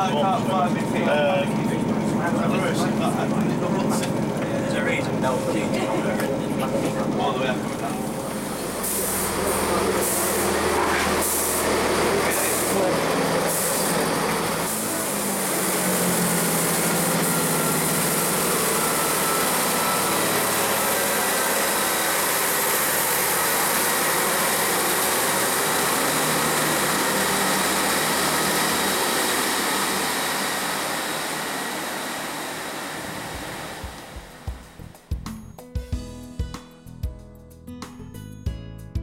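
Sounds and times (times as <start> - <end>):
diesel train running: 0.0 - 35.0.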